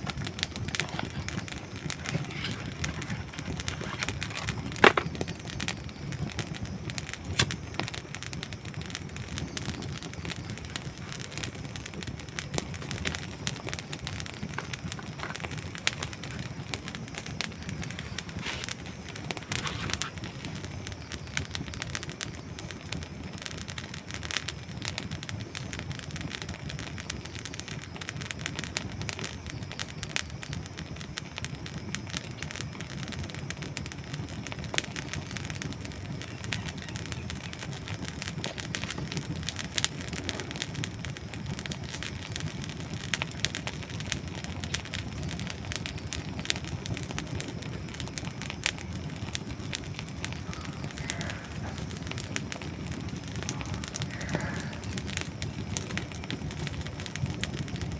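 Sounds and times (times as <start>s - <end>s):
dry wood crackling: 0.0s - 24.4s, 34.2s - 57.9s
wood fire burning: 0.0s - 57.9s.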